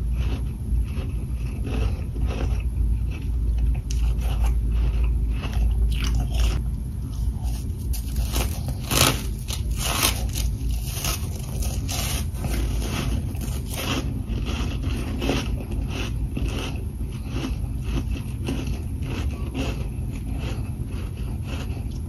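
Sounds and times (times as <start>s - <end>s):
crunchy chewing of frost: 0.0s - 22.0s
steady low hum: 0.0s - 22.0s.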